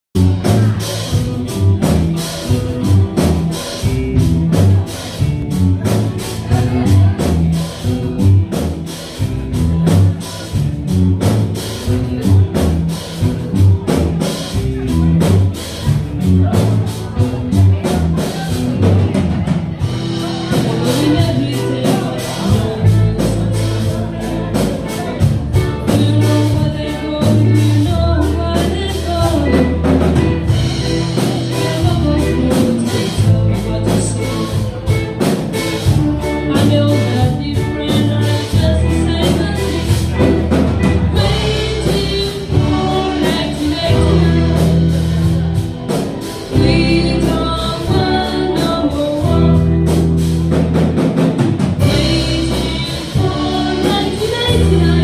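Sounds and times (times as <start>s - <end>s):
live rock band playing: 0.1s - 55.0s
long held bass notes: 0.1s - 55.0s.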